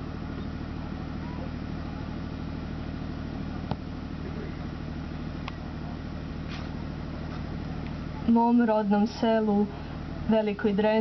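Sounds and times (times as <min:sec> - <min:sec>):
low droning hum: 0:00.0 - 0:11.0.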